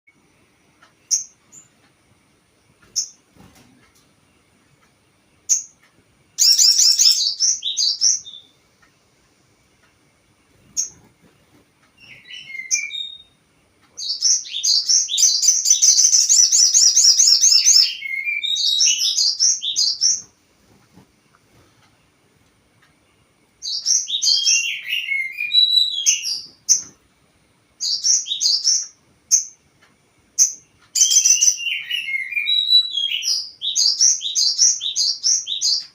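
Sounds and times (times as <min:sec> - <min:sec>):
songbird chirping: 0:00.1 - 0:35.9.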